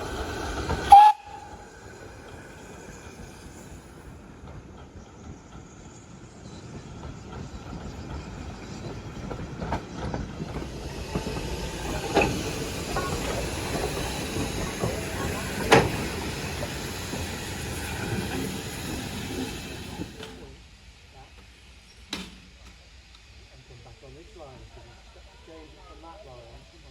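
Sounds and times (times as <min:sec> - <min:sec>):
sharp clanks of train wheels: 0:00.0 - 0:20.6, 0:21.2 - 0:23.8
steam train running: 0:00.0 - 0:26.9.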